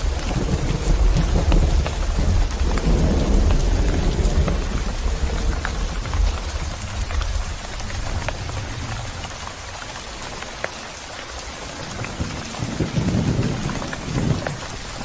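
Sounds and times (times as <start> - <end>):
low thunder rumble: 0.0 - 10.2, 11.9 - 15.0
raindrops ticking: 0.0 - 15.0
steady rain falling: 0.0 - 15.0.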